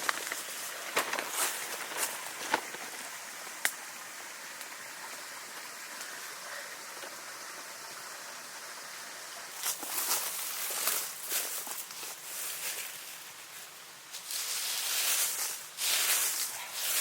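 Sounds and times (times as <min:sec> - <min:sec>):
water hissing: 0:00.0 - 0:17.0.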